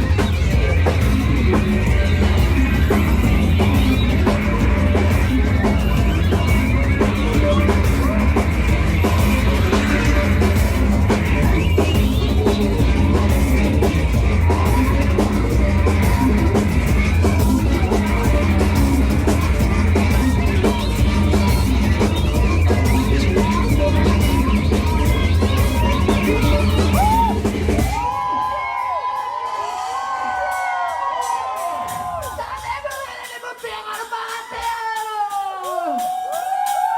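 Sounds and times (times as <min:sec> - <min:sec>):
live rock band playing: 0:00.0 - 0:33.7
crowd cheering and whistling: 0:00.0 - 0:36.9
vocals: 0:00.0 - 0:36.9.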